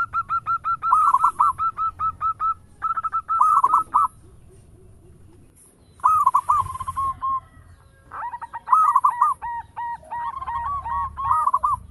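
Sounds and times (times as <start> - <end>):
dove cooing: 0.0 - 11.9.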